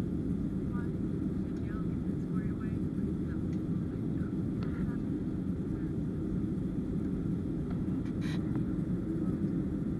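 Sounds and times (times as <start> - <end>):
airliner cabin engine drone: 0.0 - 9.9.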